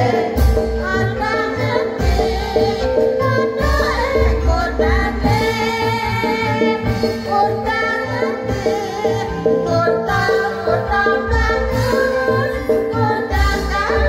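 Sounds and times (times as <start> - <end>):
drum keeping even beat: 0.0 - 14.0
gamelan ensemble playing: 0.0 - 14.0.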